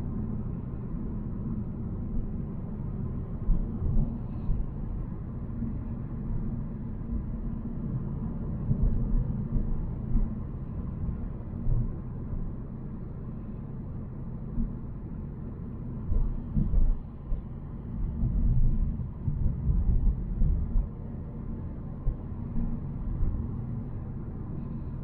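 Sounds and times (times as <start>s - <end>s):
car engine rumble: 0.0s - 25.0s.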